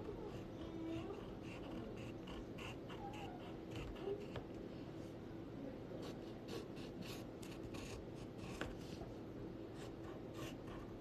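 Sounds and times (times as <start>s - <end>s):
pencil scratching on paper: 0.0s - 4.5s, 6.0s - 9.1s, 9.7s - 11.0s.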